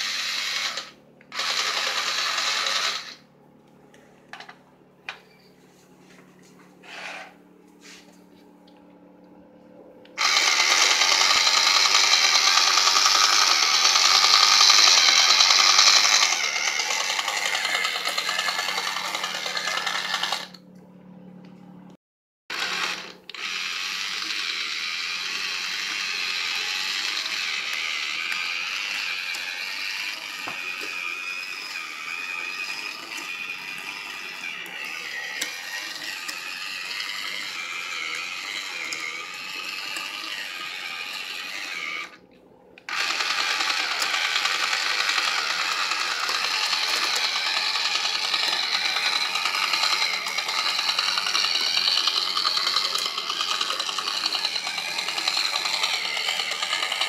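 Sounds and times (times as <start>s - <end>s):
small electric motor whirring: 0.0s - 3.2s, 10.1s - 20.6s, 22.5s - 42.2s, 42.8s - 57.0s.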